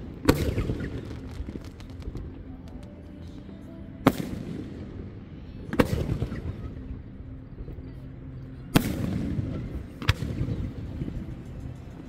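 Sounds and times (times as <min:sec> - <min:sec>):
low rumbling echo: 0:00.0 - 0:12.0.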